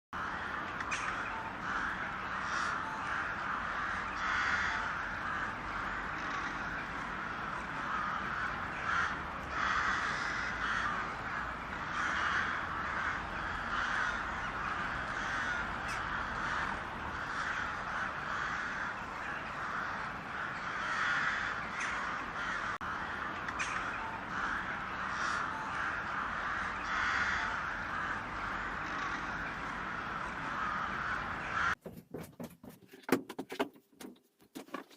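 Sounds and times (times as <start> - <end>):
crows cawing: 0.2 - 31.8.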